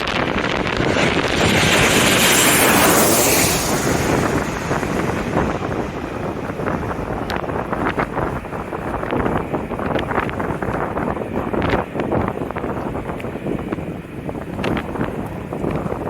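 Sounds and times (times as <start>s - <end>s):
jet airliner passing overhead: 0.0s - 16.0s
wind buffeting microphone: 0.0s - 16.0s.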